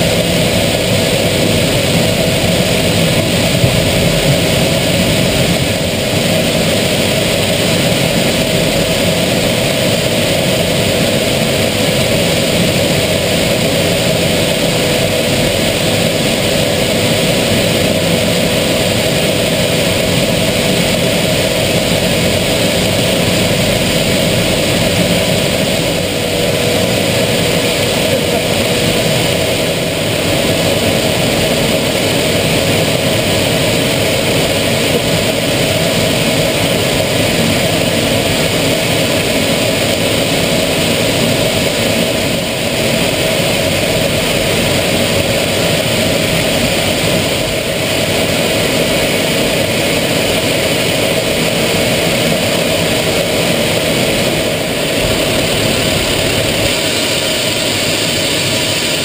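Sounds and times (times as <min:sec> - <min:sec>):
jet engine and airflow rush: 0:00.0 - 0:59.0
steady hum: 0:00.0 - 0:59.0.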